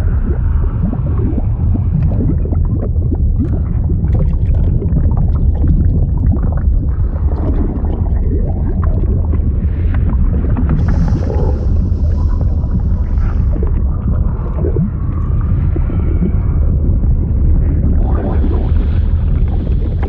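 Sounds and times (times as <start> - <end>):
deep rumble: 0.0 - 20.0
liquid bubbling and gurgling: 0.0 - 20.0.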